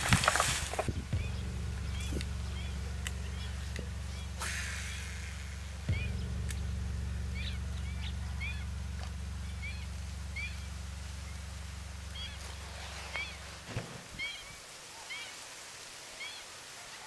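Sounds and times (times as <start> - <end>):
steady low hum: 0.0 - 14.6
birds chirping: 0.0 - 15.4.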